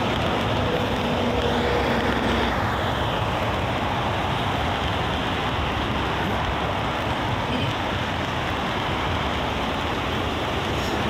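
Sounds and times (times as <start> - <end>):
highway traffic: 0.0 - 11.0.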